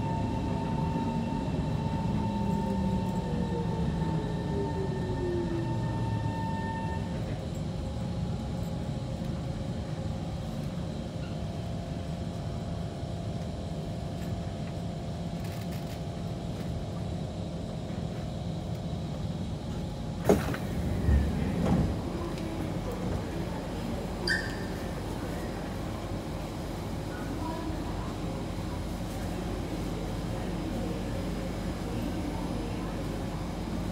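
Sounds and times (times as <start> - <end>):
train rumble and hum: 0.0 - 33.9.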